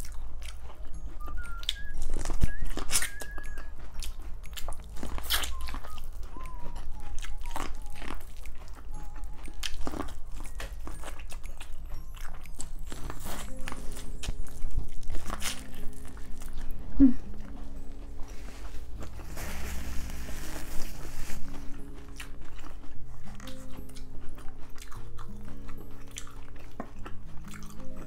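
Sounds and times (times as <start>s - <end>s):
crisp biting and chewing corn: 0.0s - 28.0s.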